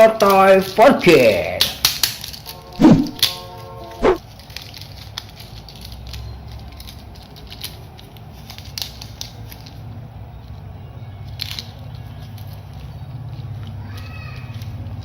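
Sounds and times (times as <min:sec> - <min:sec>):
plastic toys clicking and tapping: 0:00.0 - 0:03.6, 0:04.2 - 0:15.0.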